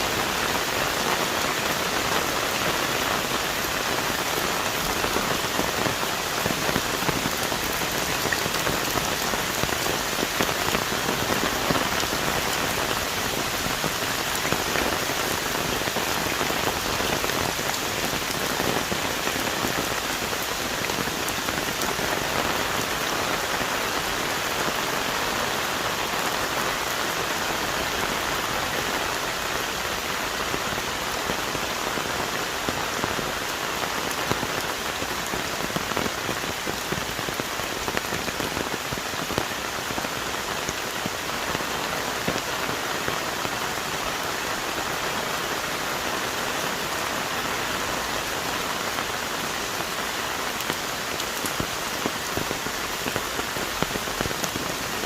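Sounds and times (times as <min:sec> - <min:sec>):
heavy rain on trees and leaves: 0:00.0 - 0:55.0.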